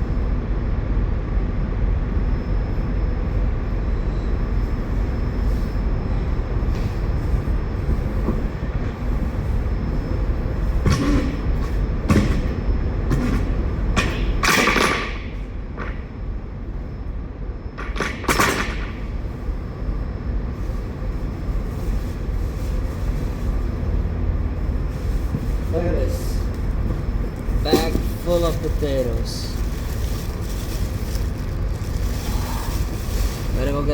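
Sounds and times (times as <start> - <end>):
low engine rumble: 0.0 - 14.5, 18.8 - 33.9.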